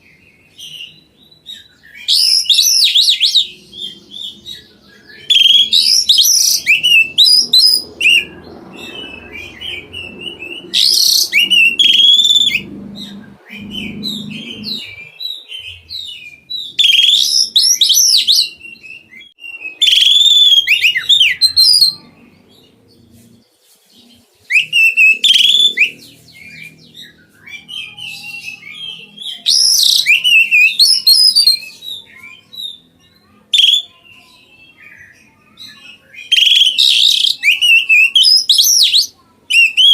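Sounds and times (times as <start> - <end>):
bird singing whistled phrases: 0.1 - 23.4, 24.4 - 39.9.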